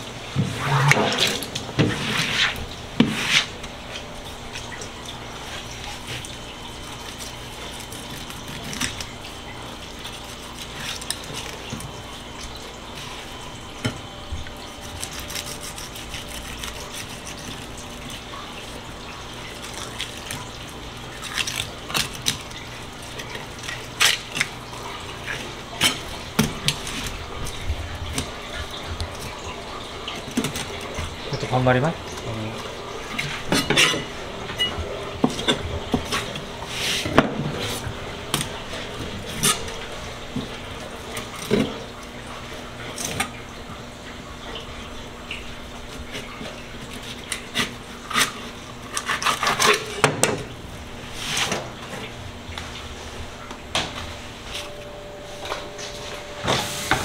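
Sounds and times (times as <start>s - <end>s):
water running into sink: 0.0s - 49.2s.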